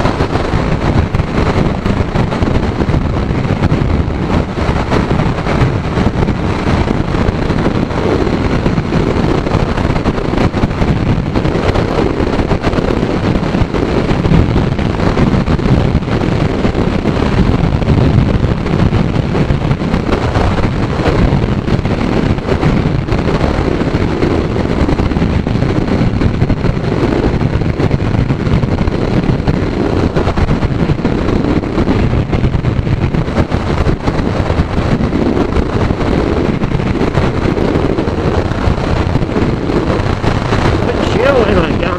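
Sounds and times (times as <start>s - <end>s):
motorcycle engine and tyres: 0.0s - 41.9s
wind buffeting microphone: 0.0s - 41.9s.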